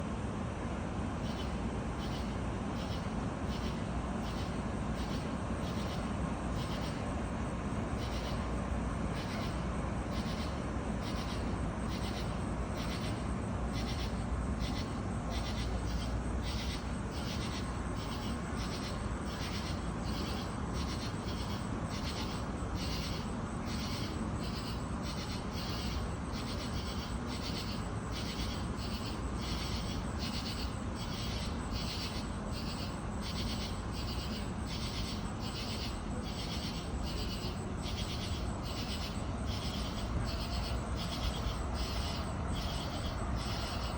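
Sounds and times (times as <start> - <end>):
insect buzzy pulsing call: 1.2 - 43.9.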